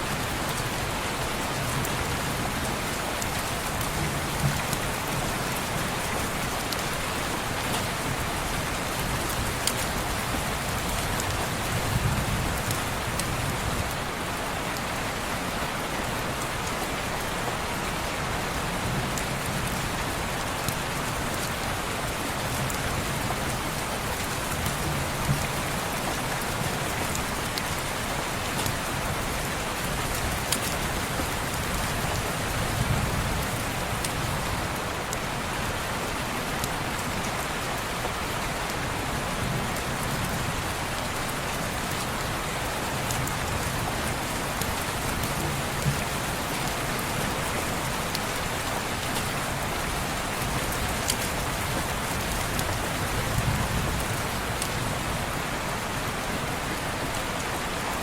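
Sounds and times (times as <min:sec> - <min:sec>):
heavy rain on window glass: 0:00.0 - 0:58.0.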